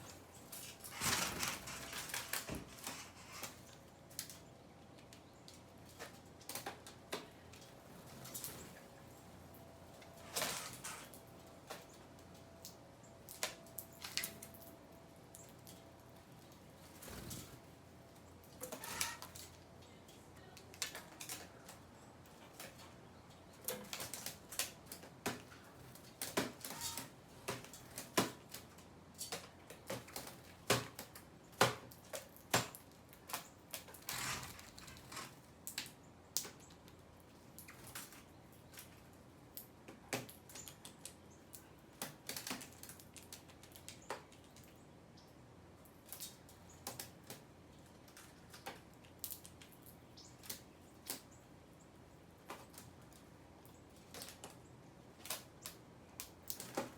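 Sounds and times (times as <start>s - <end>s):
birds pecking at seed: 0.0s - 56.9s.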